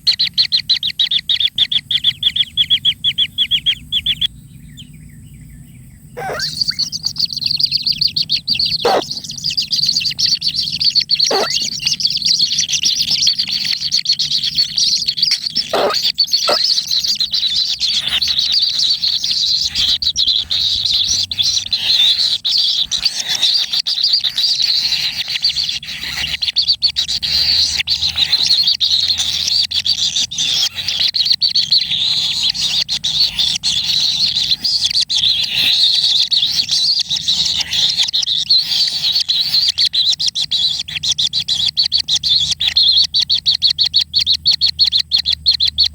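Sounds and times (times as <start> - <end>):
nestlings chirping in a chorus: 0.0 - 45.9
sharp bird calls: 0.0 - 45.9.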